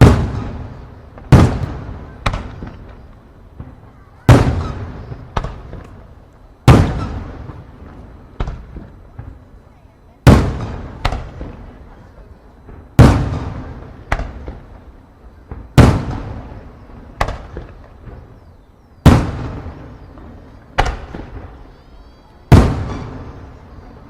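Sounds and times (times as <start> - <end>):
sharp firework bangs: 0.0 - 9.4, 10.2 - 12.0, 12.6 - 18.4, 19.0 - 24.0
fireworks booming: 0.0 - 24.0.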